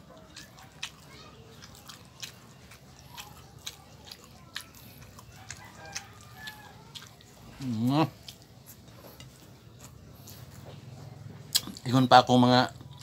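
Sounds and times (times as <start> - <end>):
person chewing and lip-smacking: 0.0 - 13.0.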